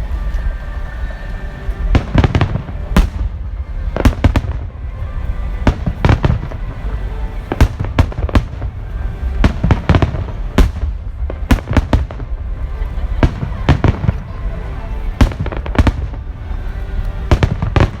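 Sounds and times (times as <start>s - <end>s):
fireworks bursting with sharp bangs: 0.0s - 18.0s
low rumble of echoing detonations: 0.0s - 18.0s.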